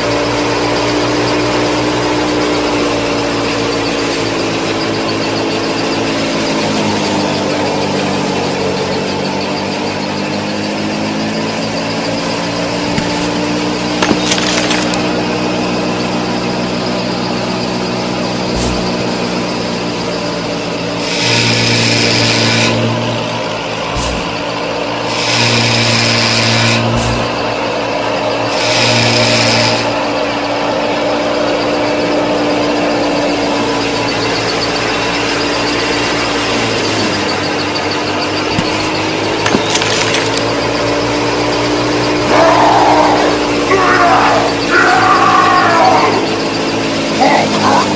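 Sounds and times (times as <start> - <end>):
small electric motors whining: 0.0 - 47.9
loud buzzing: 0.4 - 31.4, 32.7 - 47.9.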